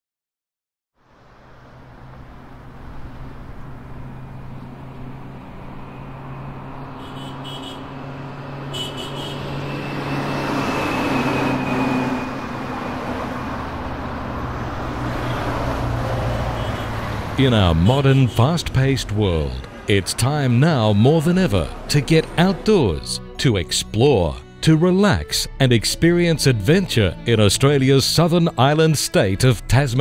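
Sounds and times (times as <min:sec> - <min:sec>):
street traffic hum: 0:01.0 - 0:30.0.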